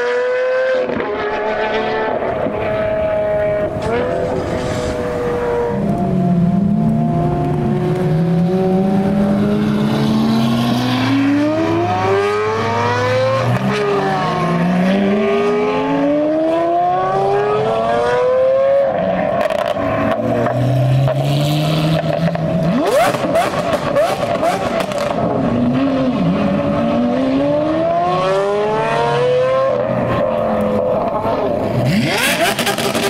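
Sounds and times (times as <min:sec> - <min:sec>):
sports car engines accelerating: 0:00.0 - 0:33.0.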